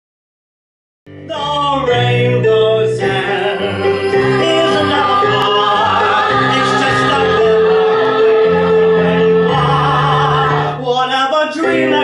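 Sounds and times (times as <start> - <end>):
instrumental accompaniment: 1.1 - 12.0
group singing show tune: 1.8 - 12.0.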